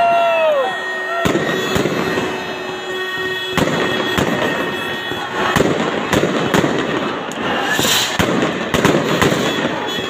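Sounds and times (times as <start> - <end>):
fireworks crackling: 0.0 - 10.0
fireworks bangs: 0.6 - 10.0.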